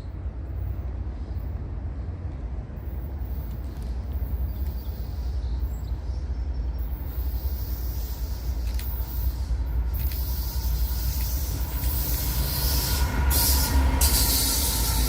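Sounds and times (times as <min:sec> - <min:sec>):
train rolling by: 0:00.0 - 0:15.0.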